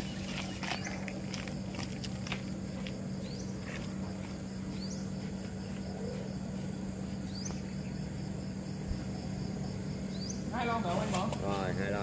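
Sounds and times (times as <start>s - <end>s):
high insect buzz: 0.0s - 12.0s
low electric hum: 0.0s - 12.0s.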